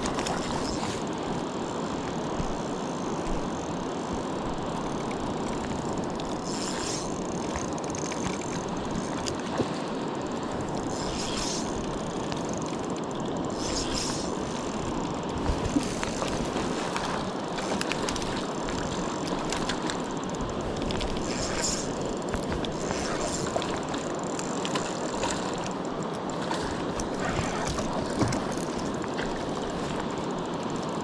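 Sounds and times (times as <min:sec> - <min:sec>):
rushing water: 0:00.0 - 0:31.0
fishing reel clicking: 0:00.1 - 0:09.5, 0:10.3 - 0:31.0.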